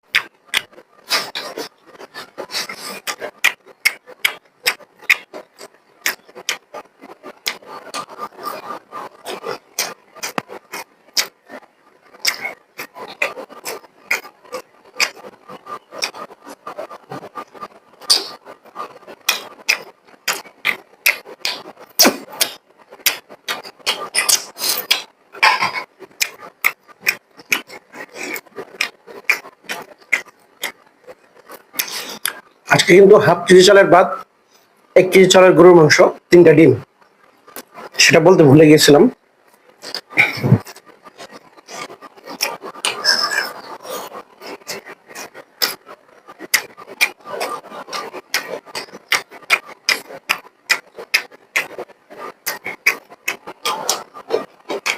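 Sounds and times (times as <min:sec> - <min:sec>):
close-miked chewing and smacking: 0:00.1 - 0:32.6, 0:39.4 - 0:54.9.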